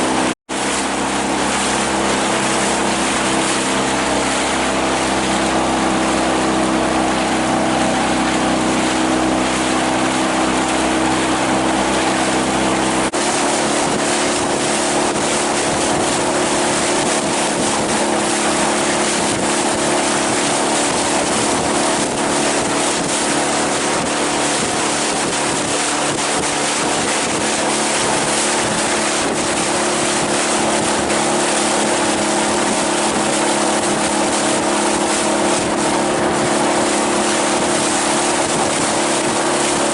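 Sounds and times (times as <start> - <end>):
outboard motor running: 0.0 - 39.9
wind and water rushing: 0.0 - 39.9.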